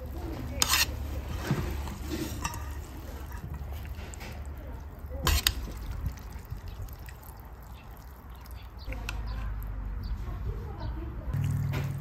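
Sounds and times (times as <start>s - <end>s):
chopsticks stirring noodles in broth: 0.0s - 9.7s
liquid sloshing: 0.0s - 9.7s.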